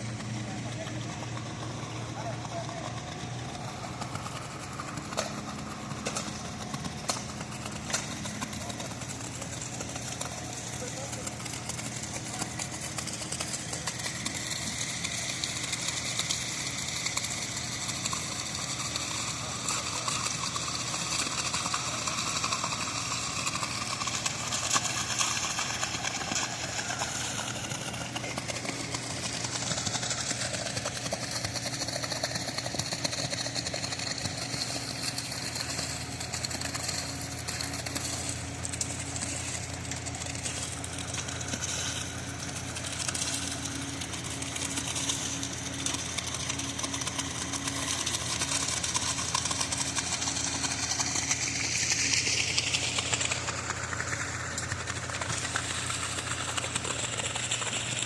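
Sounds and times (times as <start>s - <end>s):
continuous mechanical noise: 0.0s - 58.0s
engine running: 0.0s - 58.0s.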